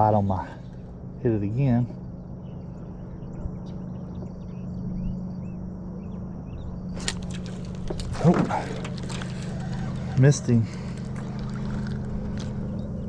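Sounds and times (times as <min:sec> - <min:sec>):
steady low hum: 0:00.0 - 0:13.0
chirping bird calls: 0:01.5 - 0:13.0.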